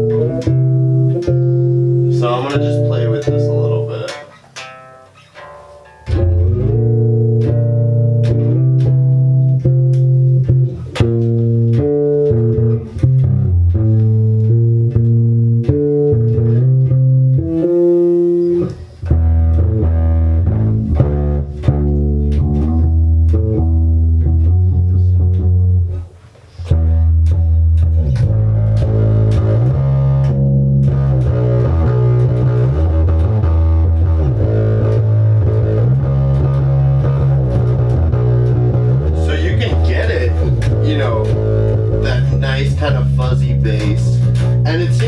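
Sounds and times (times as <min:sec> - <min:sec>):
electric bass guitar notes: 0:00.0 - 0:45.0.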